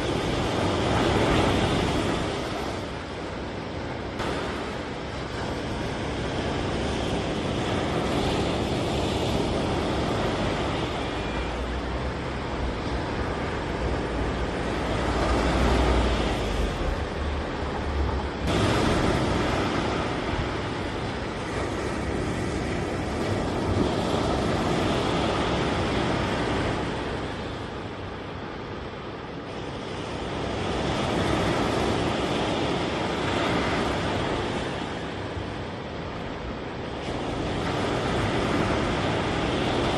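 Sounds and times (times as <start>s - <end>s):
ocean surf breaking: 0.0s - 39.9s
wind buffeting microphone: 0.0s - 39.9s.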